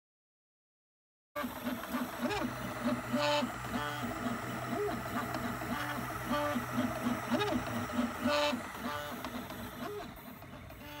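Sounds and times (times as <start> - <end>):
stepper motors whining: 1.4 - 11.0.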